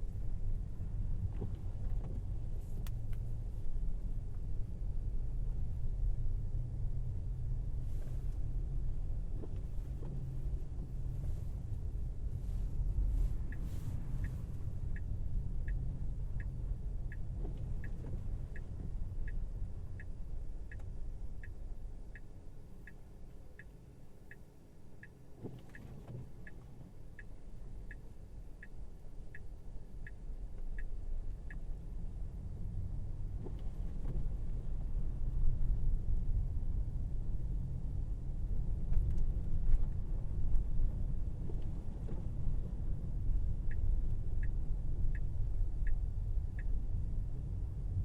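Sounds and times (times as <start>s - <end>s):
road and tyre rumble: 0.0s - 48.0s
turn signal ticking: 4.2s - 36.4s, 37.2s - 48.0s.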